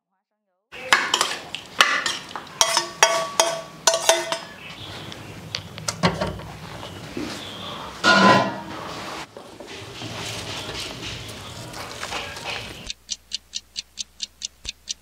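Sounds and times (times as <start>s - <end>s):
utensil clinking against a dish: 0.8s - 13.0s.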